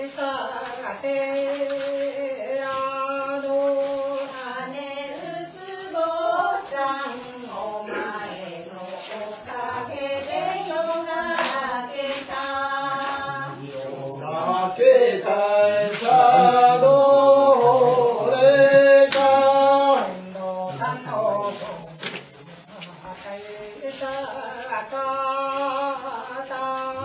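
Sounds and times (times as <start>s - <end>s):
group singing folk song: 0.0s - 27.0s.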